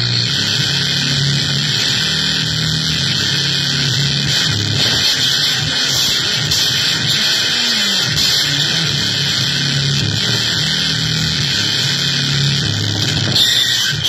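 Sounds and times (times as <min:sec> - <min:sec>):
electronic noise music: 0:00.0 - 0:14.0.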